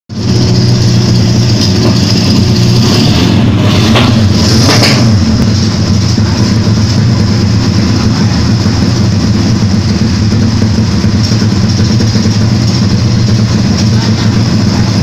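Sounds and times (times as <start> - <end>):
engine idling: 0.1 - 15.0.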